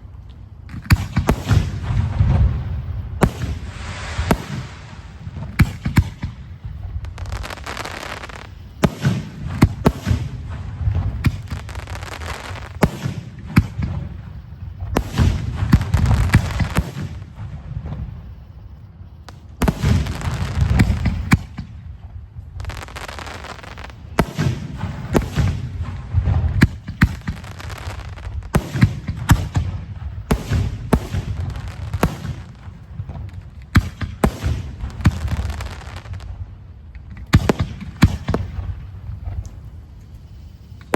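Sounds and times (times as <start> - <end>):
fireworks bursting with bangs: 0.6 - 40.9.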